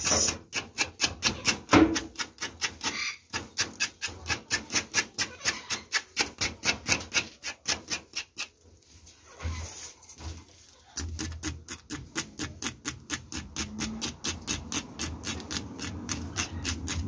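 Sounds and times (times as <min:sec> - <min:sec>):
knife scraping a shell: 0:00.0 - 0:08.6, 0:10.7 - 0:17.0.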